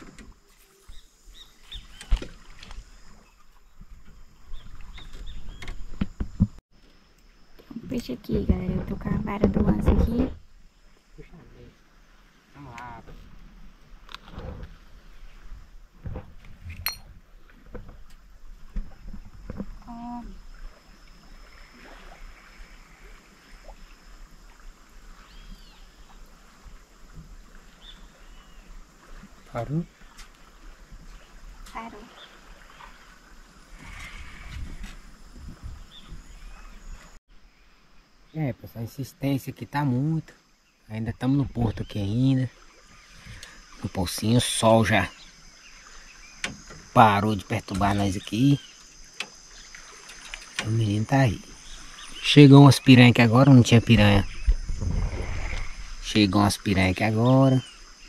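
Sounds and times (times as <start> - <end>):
water movement: 0.0 - 37.2, 39.2 - 58.0.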